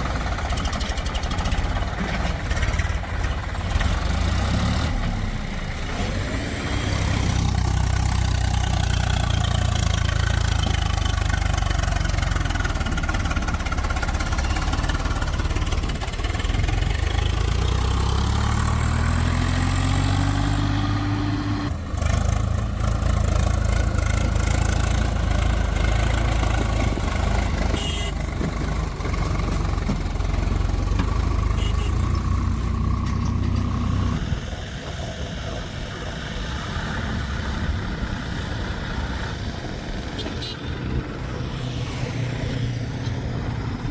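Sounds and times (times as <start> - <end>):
diesel machinery engine revving: 0.0 - 43.9.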